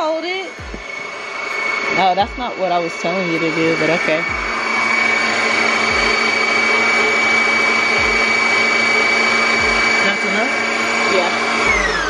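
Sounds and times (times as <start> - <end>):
sewing machine motor whine: 0.0 - 12.0.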